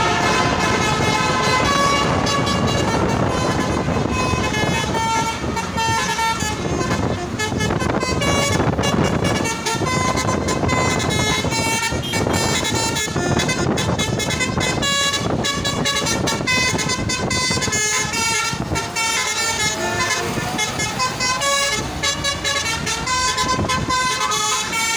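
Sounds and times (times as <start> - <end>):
musical truck horn playing a tune: 0.0 - 24.9
truck engine running: 0.0 - 24.9.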